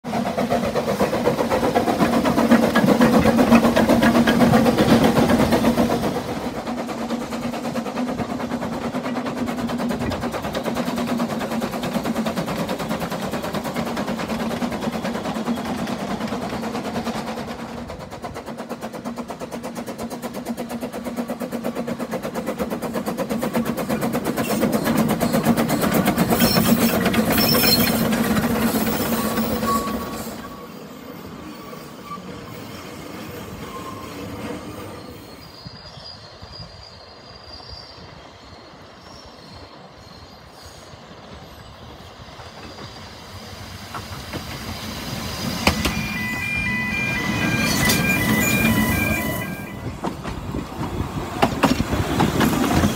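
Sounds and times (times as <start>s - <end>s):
steam locomotive chuffing: 0.0s - 52.9s.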